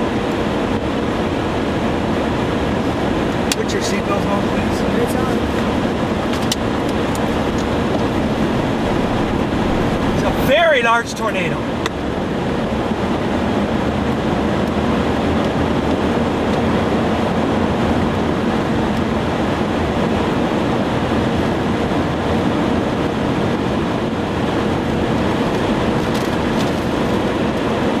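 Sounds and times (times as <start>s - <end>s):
tornado wind roaring: 0.0s - 28.0s.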